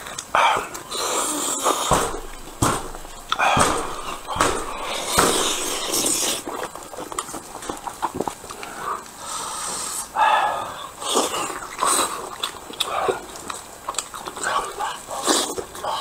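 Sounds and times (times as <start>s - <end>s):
man chewing wetly: 0.0s - 10.2s, 10.8s - 16.0s.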